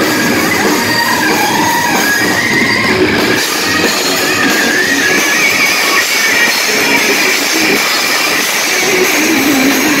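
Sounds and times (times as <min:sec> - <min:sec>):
bass guitar: 0:00.0 - 0:10.0
drums: 0:00.0 - 0:10.0
electric guitar lead: 0:00.0 - 0:10.0.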